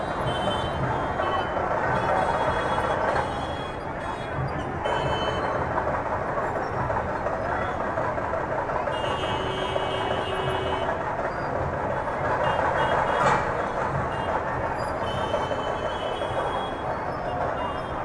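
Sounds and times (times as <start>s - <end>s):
car and scooter engines: 0.0s - 18.0s.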